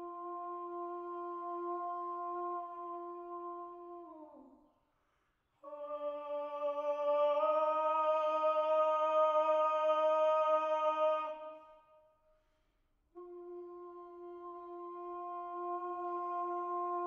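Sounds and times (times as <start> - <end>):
two voices singing a cappella: 0.0 - 4.5, 5.6 - 11.8, 13.2 - 17.0.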